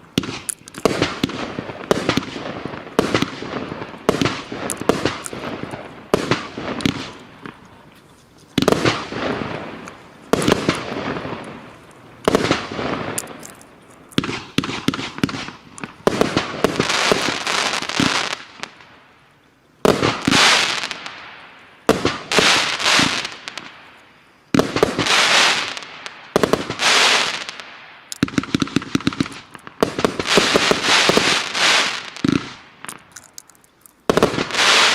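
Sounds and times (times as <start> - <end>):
fireworks bursts: 0.0 - 19.1, 19.8 - 34.9
fireworks crackling: 0.0 - 34.9.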